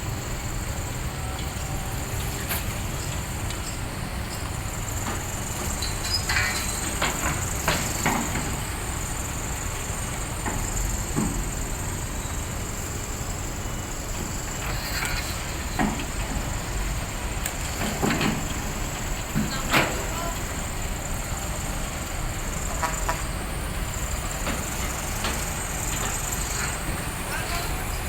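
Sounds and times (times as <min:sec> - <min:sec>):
diesel engine running: 0:00.0 - 0:28.0
machinery clanks and knocks: 0:01.4 - 0:28.0.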